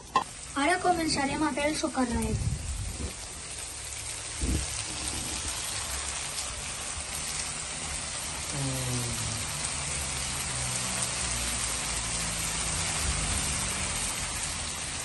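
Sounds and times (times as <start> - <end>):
rice sizzling in a pan: 0.0 - 15.0.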